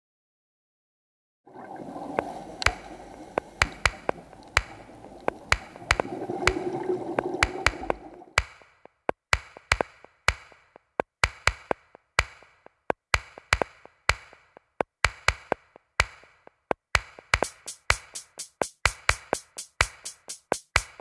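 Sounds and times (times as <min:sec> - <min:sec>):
sparse electronic beat: 0:02.6 - 0:21.0.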